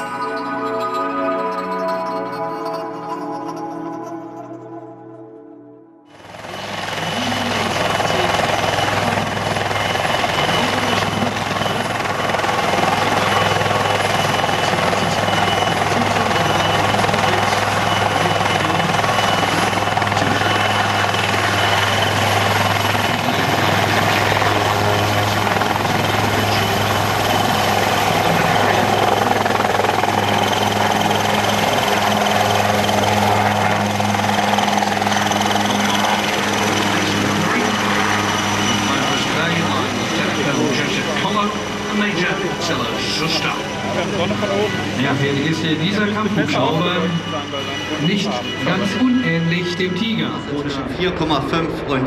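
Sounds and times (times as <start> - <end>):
helicopter rotor beat: 6.1 - 52.0
high turbine whine: 6.1 - 52.0.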